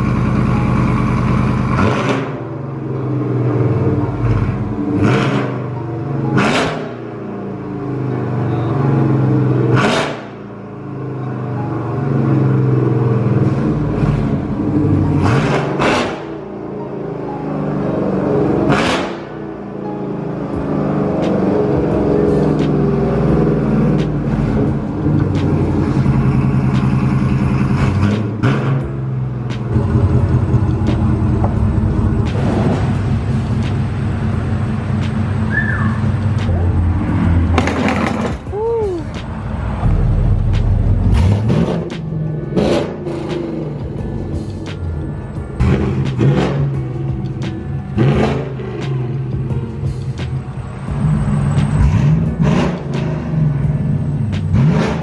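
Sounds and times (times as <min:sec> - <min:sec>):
truck engine revving: 0:00.0 - 0:10.5, 0:12.1 - 0:19.5, 0:20.1 - 0:55.0.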